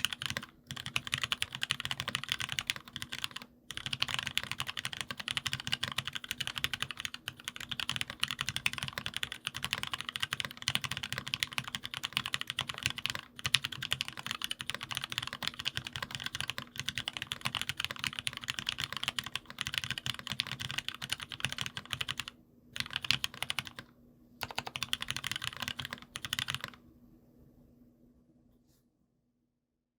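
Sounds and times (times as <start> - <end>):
fast typing on mechanical keyboard: 0.0 - 26.8.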